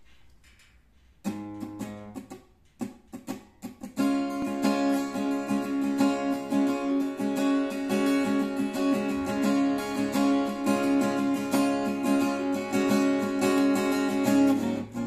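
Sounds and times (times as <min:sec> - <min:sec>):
acoustic guitar strumming chords: 0:01.2 - 0:15.0.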